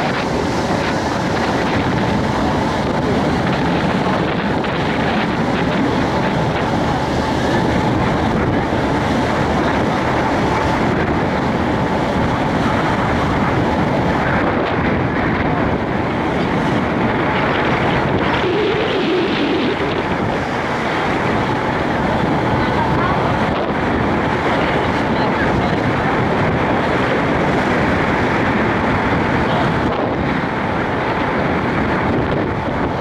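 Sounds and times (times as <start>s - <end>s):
sea wash: 0.0s - 33.0s
wind on microphone: 0.0s - 33.0s.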